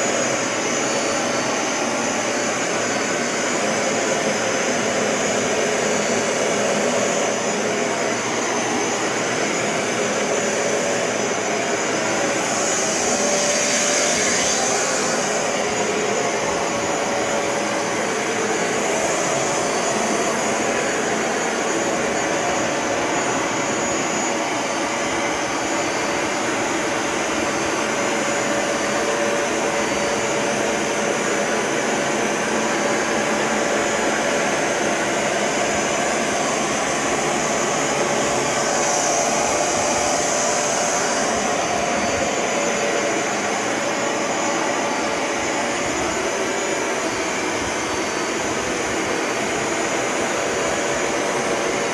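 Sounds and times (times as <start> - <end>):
carpet cleaner hiss: 0.0 - 51.9
carpet cleaner motor whining: 0.0 - 51.9.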